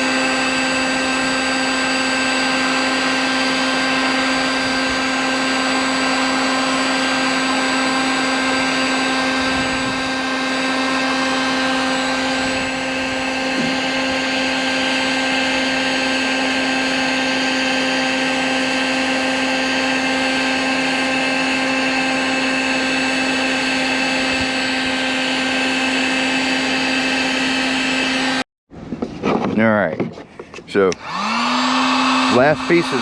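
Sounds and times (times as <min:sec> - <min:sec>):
heat gun fan humming: 0:00.0 - 0:28.5, 0:30.3 - 0:33.0.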